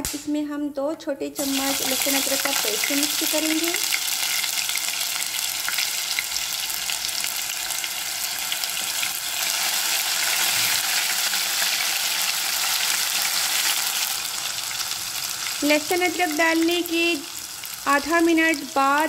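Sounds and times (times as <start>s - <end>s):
spices sizzling in hot oil: 1.4s - 19.0s.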